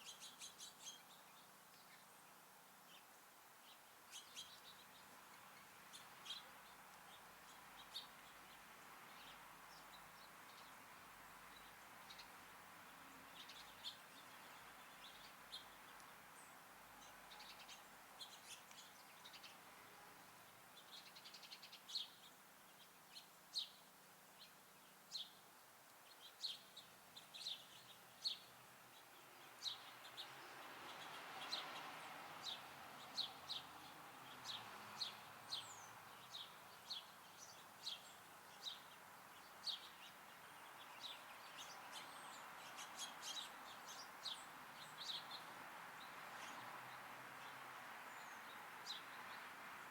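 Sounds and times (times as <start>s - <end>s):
small songbirds chirping: 0.0s - 49.9s.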